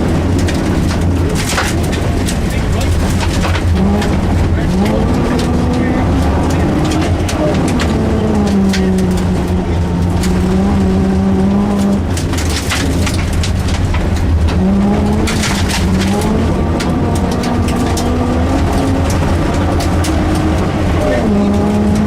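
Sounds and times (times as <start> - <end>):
rally car engine running hard: 0.0 - 22.0
rumble of tyres and chassis: 0.0 - 22.0
sharp ticks and knocks: 0.3 - 22.0.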